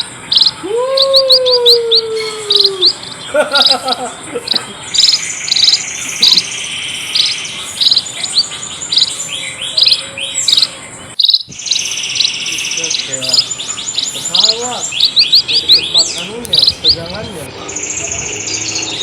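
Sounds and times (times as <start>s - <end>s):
flock of birds chirping: 0.0s - 19.0s
long falling bird call: 0.0s - 19.0s.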